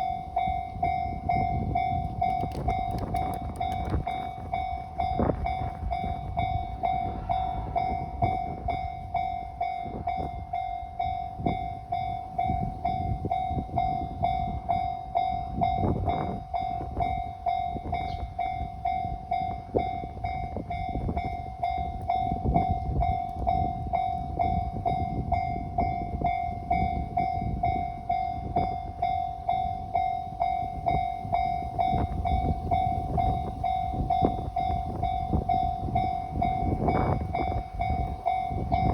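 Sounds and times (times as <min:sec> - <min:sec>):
train rumbling and clattering: 0:00.0 - 0:38.9.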